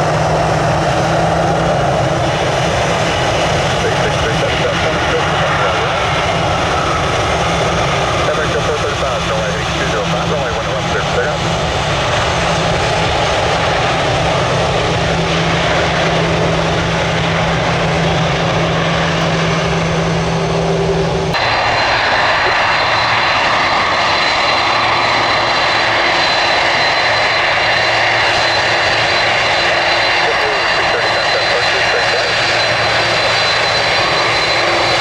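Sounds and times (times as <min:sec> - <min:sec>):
high steady engine whine: 0:00.0 - 0:35.0
jet engines running: 0:00.0 - 0:35.0.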